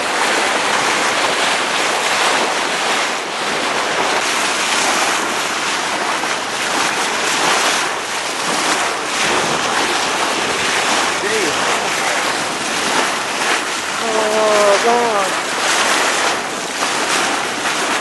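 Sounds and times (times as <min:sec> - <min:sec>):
sea water rushing along a bow: 0:00.0 - 0:18.0
wind noise on microphone: 0:00.0 - 0:18.0.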